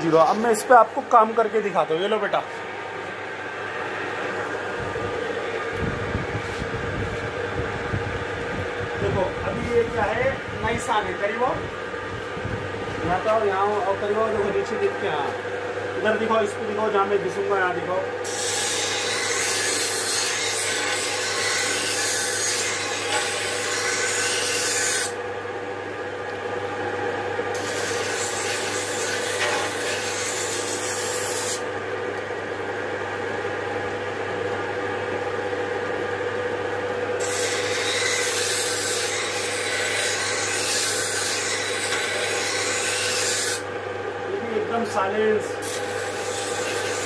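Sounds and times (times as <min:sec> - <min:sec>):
grinding wheel humming: 0:00.0 - 0:47.0.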